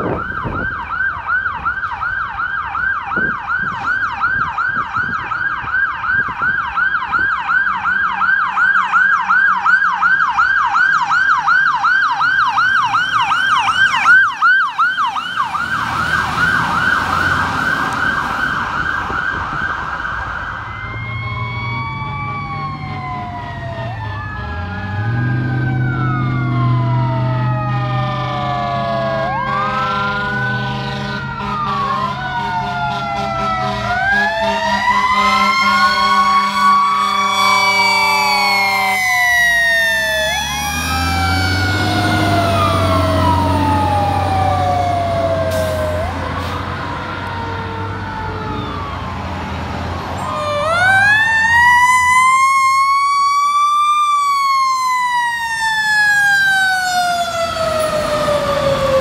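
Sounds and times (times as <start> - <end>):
fire truck siren yelping: 0.0 - 59.0
truck engine drone: 0.0 - 59.0
wailing sirens: 0.0 - 59.0.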